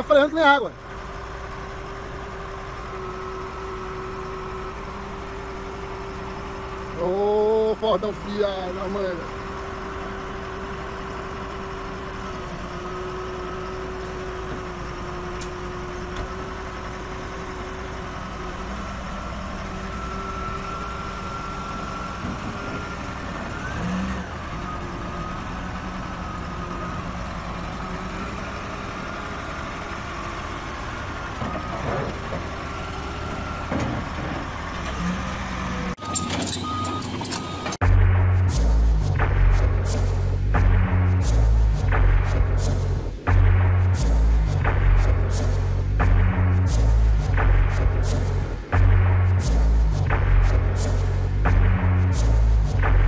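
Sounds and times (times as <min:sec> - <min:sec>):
diesel engine running at low revs: 0:00.0 - 0:53.0.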